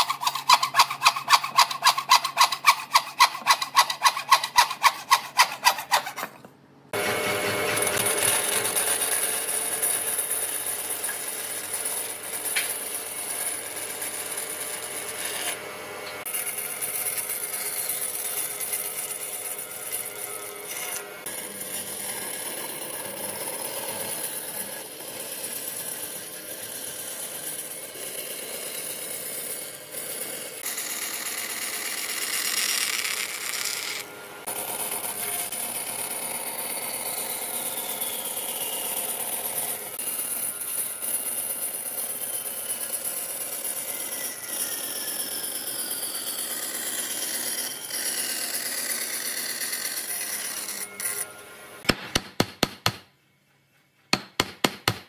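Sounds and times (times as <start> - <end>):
band saw cutting wood: 0.0 - 53.0.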